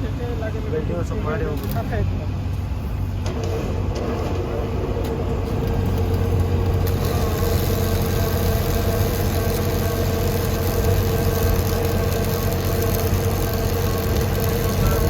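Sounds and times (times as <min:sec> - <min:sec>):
large engine idling: 0:02.6 - 0:15.0.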